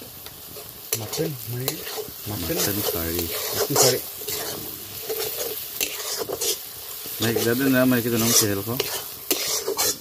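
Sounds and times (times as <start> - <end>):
oil sizzling: 0.0 - 10.0
metal spatula scraping wok: 0.4 - 10.0.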